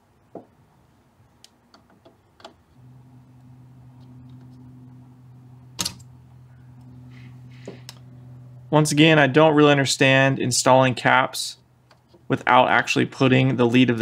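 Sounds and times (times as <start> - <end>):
steady low hum: 2.7 - 14.0.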